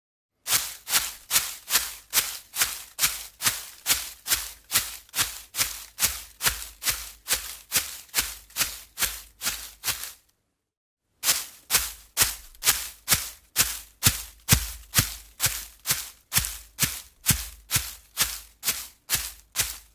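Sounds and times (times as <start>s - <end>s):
running footsteps on forest ground: 0.5s - 10.2s, 11.2s - 19.9s.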